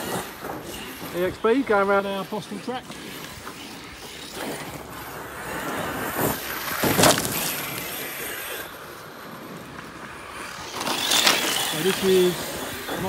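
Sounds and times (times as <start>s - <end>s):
tyres scrabbling on dirt: 0.0s - 13.0s.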